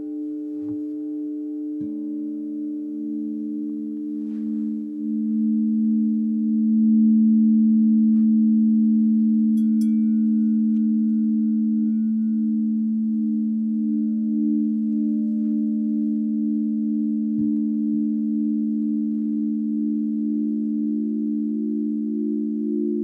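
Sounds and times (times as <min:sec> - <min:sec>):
singing bowls ringing: 0:00.0 - 0:23.0.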